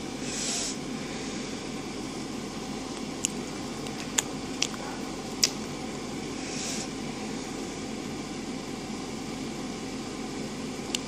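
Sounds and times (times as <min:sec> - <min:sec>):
room hiss and hum: 0:00.0 - 0:11.0.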